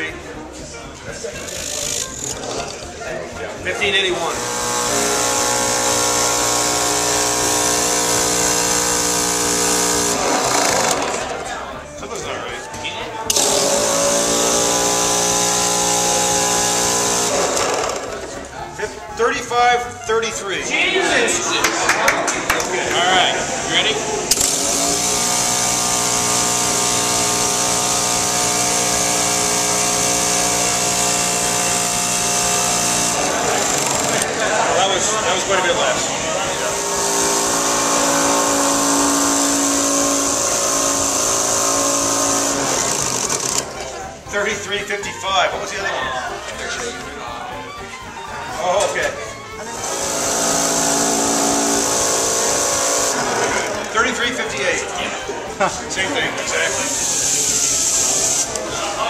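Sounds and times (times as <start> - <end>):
model engine whine: 4.3 - 19.0, 23.2 - 59.0.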